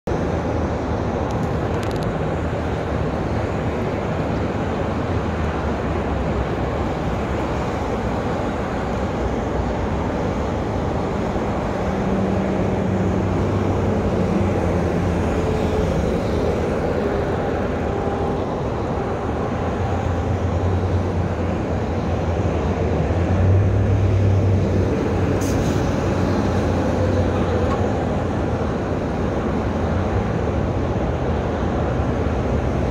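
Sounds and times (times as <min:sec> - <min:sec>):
road traffic passing: 0:00.1 - 0:32.9.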